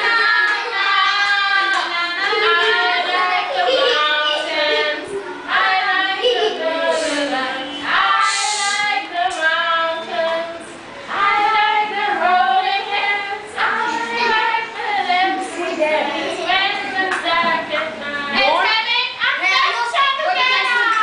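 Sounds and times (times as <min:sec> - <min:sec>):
children singing: 0:00.0 - 0:18.4.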